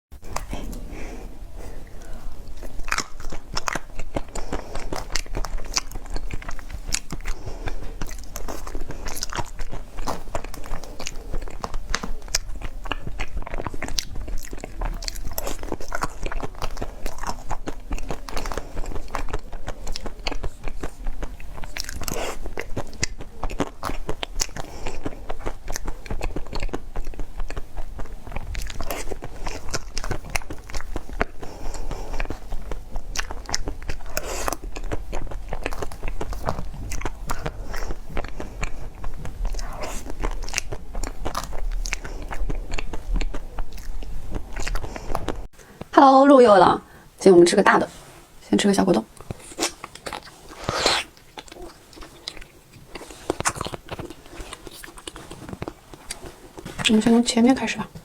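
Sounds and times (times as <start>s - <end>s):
person chewing crunchy food: 0.2s - 45.9s, 49.1s - 57.2s.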